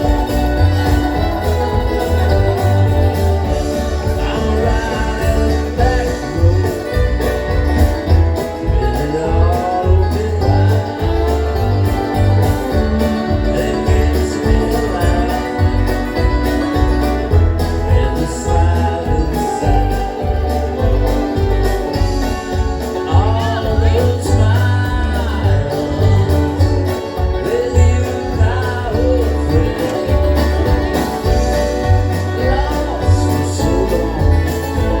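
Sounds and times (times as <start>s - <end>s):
bluegrass string band playing: 0.0s - 35.0s.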